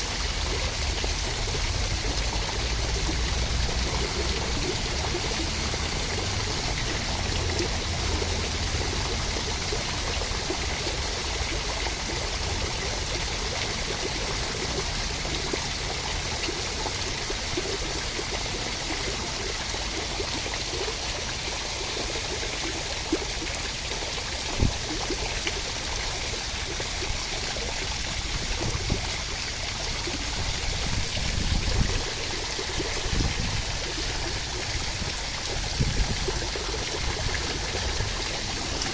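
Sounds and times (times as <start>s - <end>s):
rushing water: 0.0s - 38.9s
small drips: 0.0s - 38.9s.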